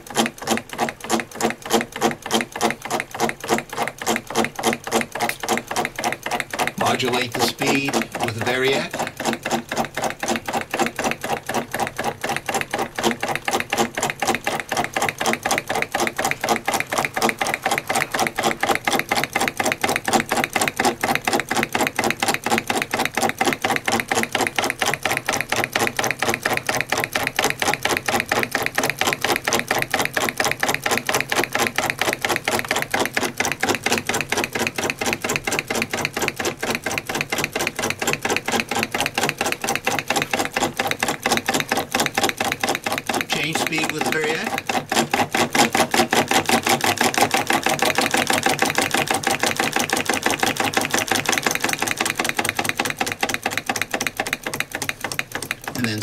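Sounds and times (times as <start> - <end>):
solenoid engine clacking: 0.0 - 56.0.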